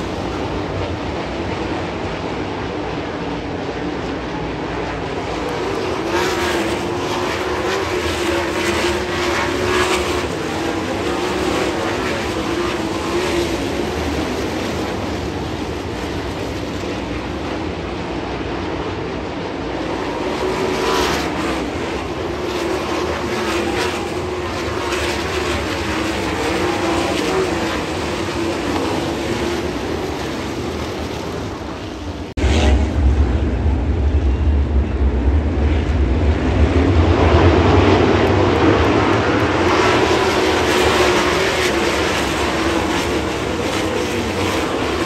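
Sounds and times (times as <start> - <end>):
race car engines droning: 0.0 - 45.0.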